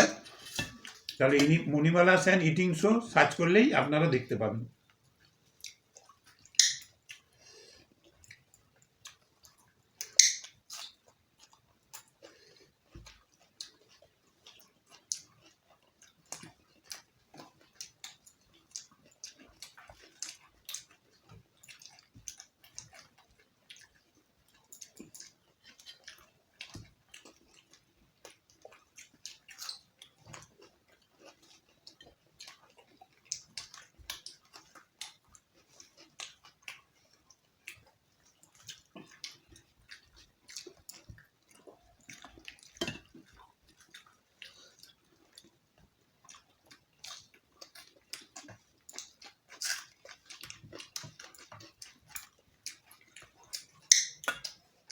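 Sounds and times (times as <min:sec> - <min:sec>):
person chewing food: 0:00.0 - 0:01.7, 0:04.8 - 0:54.9.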